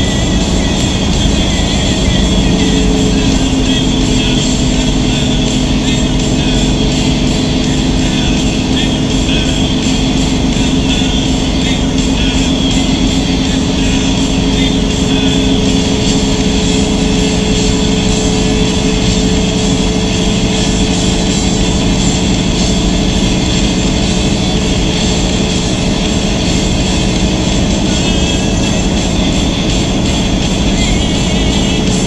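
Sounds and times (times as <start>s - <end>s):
truck engine and road noise: 0.0s - 32.0s.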